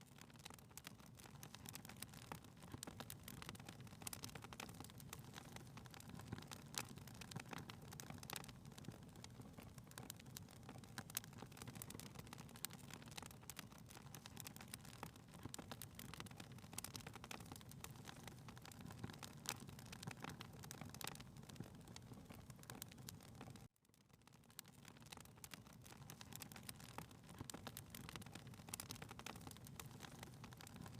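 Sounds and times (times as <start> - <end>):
fire crackling: 0.0 - 30.9.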